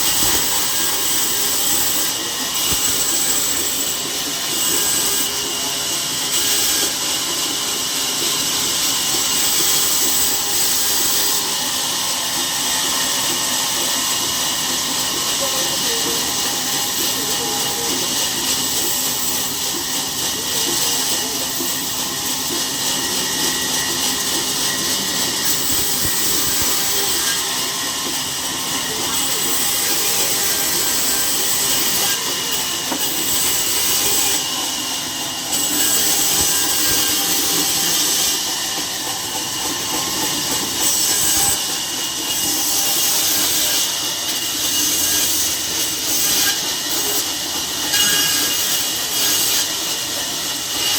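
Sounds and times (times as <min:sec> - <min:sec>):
saw cutting through log: 0:00.0 - 0:50.9.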